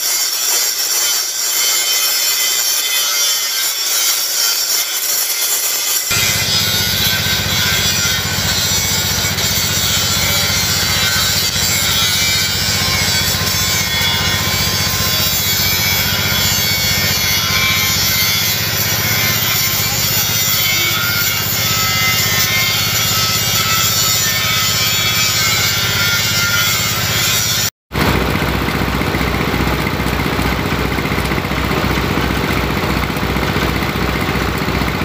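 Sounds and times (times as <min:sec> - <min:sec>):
angle grinder cutting steel: 0:00.0 - 0:35.0.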